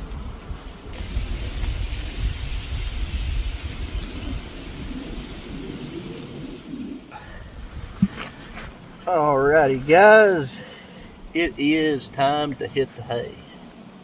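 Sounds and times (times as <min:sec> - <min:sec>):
wind buffeting microphone: 0:00.0 - 0:12.3
wind rushing hiss: 0:00.0 - 0:14.0.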